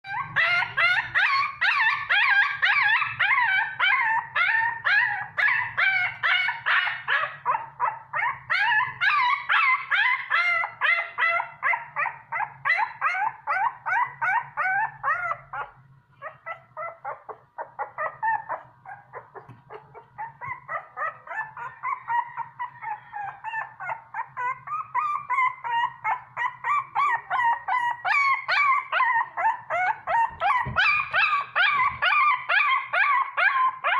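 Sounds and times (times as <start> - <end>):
puppy whimpering yelps: 0.0 - 33.9.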